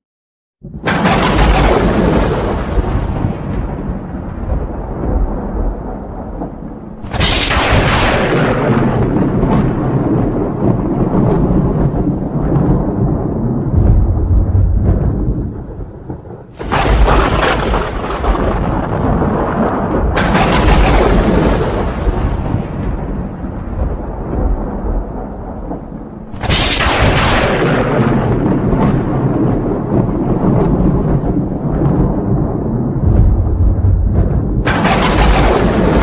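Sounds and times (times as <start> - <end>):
low thunder rumble: 0.6 - 36.0
thunder cracks: 0.6 - 36.0.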